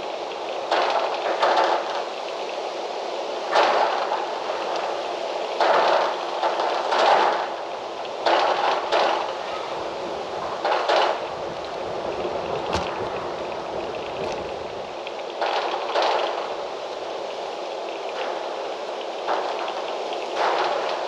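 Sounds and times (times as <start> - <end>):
wind gusting through trees: 0.0 - 21.0.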